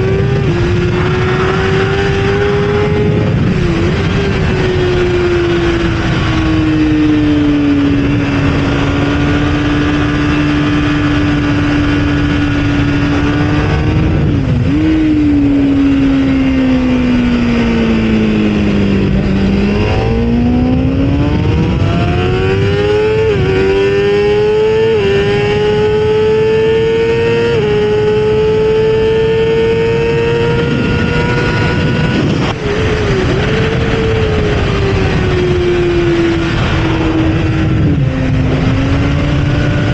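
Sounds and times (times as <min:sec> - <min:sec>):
sport bike engine revving: 0:00.0 - 0:39.9
wind rush: 0:00.0 - 0:39.9.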